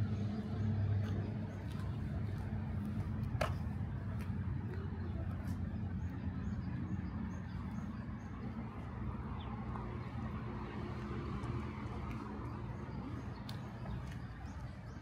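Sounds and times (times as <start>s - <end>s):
road traffic engine hum: 0.0s - 15.0s.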